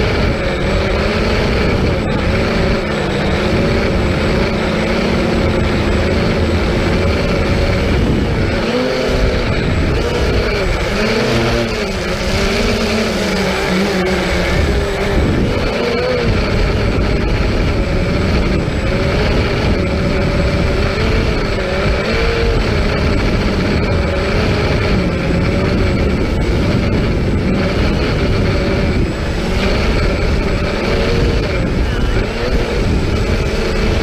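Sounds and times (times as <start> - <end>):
drone motors whining: 0.0 - 34.0
heavy low rumble: 0.0 - 34.0.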